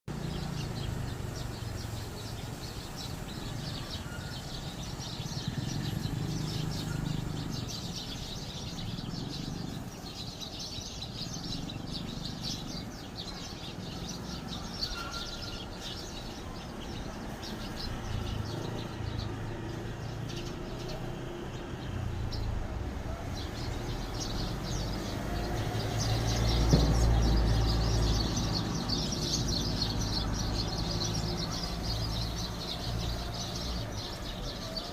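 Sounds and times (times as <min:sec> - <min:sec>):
sparrows chirping: 0:00.1 - 0:34.9.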